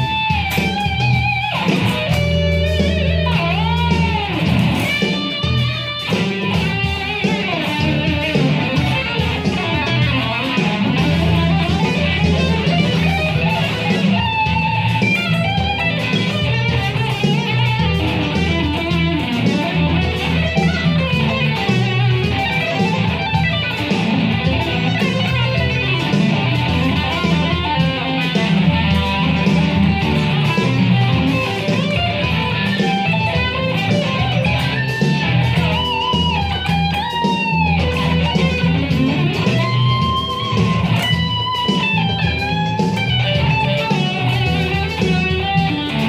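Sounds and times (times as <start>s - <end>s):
drums and bass backing: 0.0s - 46.0s
electric guitar rock solo: 0.0s - 46.0s.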